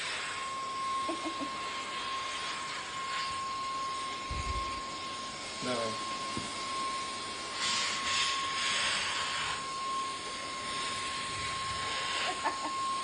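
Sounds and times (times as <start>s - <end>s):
stick vacuum running: 0.0s - 13.0s.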